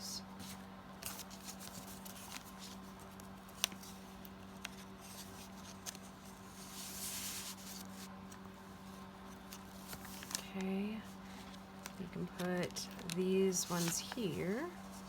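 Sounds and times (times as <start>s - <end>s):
steady low hum: 0.0s - 15.0s
paper rustling: 0.4s - 15.0s.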